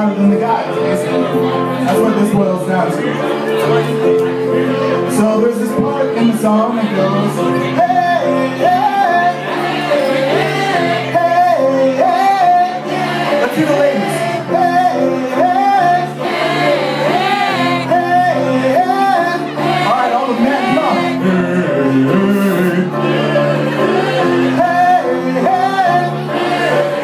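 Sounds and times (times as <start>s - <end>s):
live band playing: 0.0s - 27.0s
person singing: 0.0s - 27.0s.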